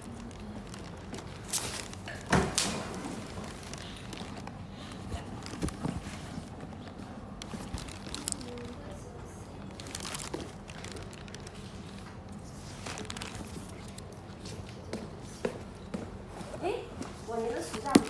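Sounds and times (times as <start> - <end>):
packaging rustling and crinkling: 0.0 - 14.8.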